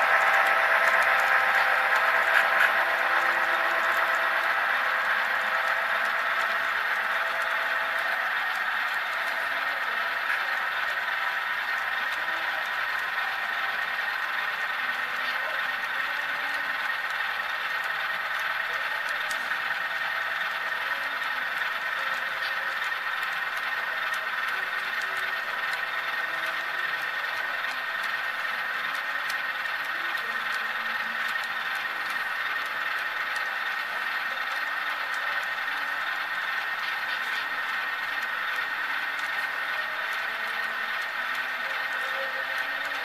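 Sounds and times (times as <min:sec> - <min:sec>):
small metal wheels rolling on rails: 0:00.0 - 0:43.0.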